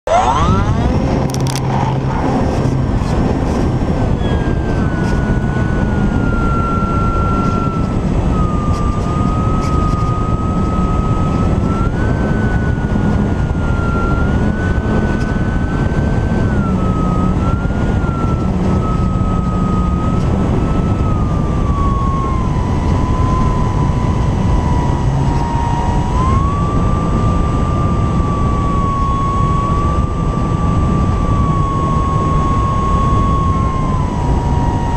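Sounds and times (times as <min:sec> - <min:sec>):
electric motor and propeller whine: 0:00.0 - 0:34.9
wind rumble: 0:00.0 - 0:34.9.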